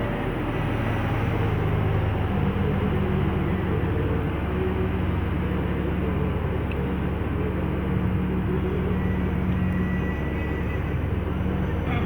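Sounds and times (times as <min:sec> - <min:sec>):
road noise: 0:00.0 - 0:12.0
truck diesel engine droning: 0:00.0 - 0:12.0.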